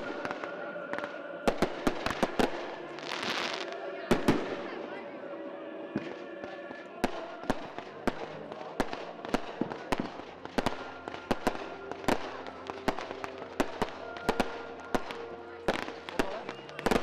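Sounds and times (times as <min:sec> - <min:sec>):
fireworks bangs: 0:00.0 - 0:04.8, 0:05.9 - 0:17.0
fireworks crackling: 0:00.0 - 0:04.8, 0:06.0 - 0:17.0.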